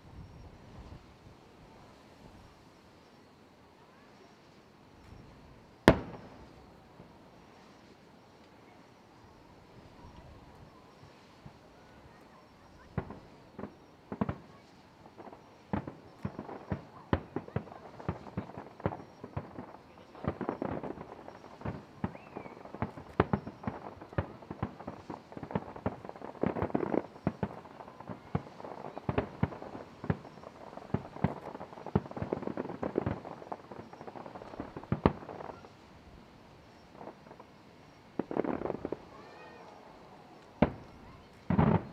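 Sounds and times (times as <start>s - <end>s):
fireworks bursting: 3.9s - 41.9s.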